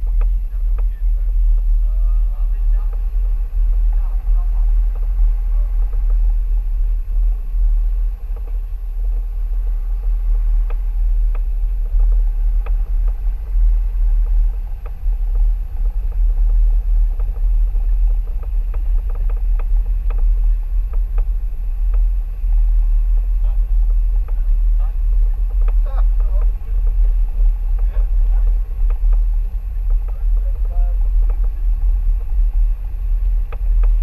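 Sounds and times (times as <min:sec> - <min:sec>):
vehicle driving deep rumble: 0:00.0 - 0:34.0.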